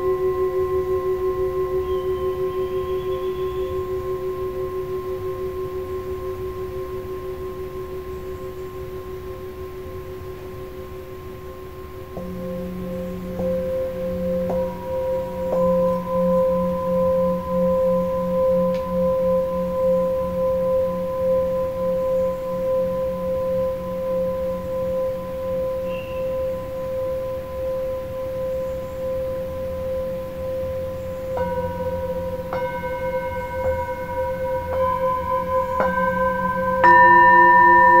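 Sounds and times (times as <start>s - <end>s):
low wavering hum: 0.0s - 38.0s
singing bowls ringing: 0.0s - 38.0s.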